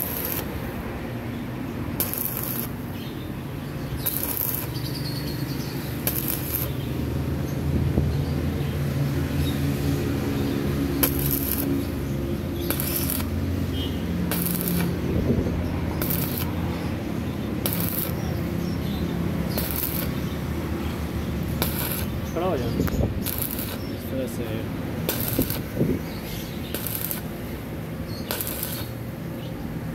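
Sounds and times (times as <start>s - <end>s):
welding arc crackling: 0.0s - 7.7s, 8.8s - 29.3s.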